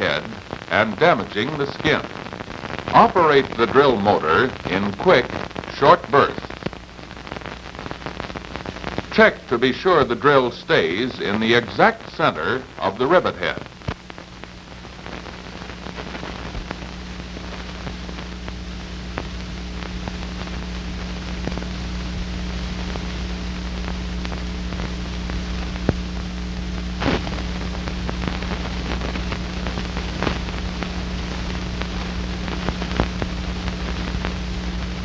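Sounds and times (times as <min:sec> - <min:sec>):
faint clicks and crackles: 0:00.0 - 0:35.0
low electrical hum: 0:00.0 - 0:35.0
tape hiss: 0:00.0 - 0:35.0.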